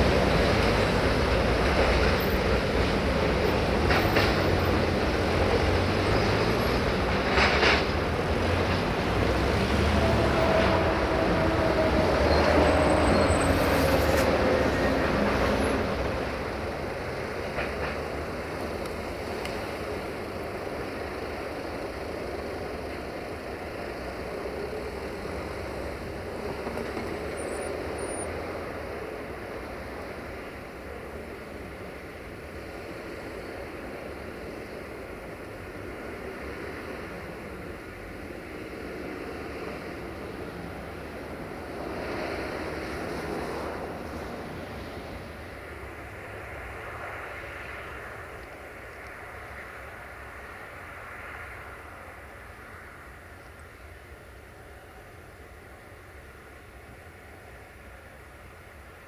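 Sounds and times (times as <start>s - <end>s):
freight train wheels rolling on rails: 0.0s - 59.0s.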